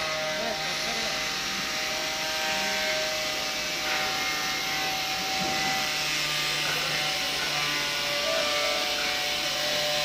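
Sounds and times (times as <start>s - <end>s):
electric sander on wood: 0.0s - 10.0s.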